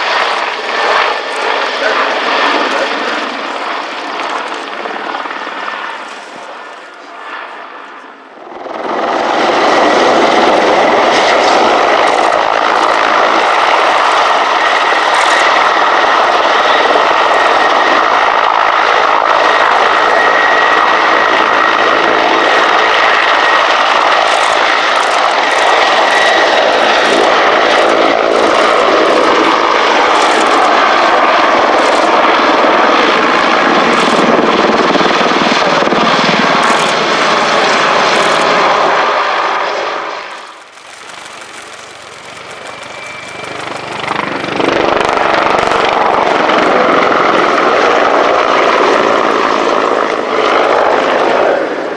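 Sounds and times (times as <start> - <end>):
helicopter engines whining: 0.0 - 51.9
helicopter rotor noise: 0.0 - 51.9.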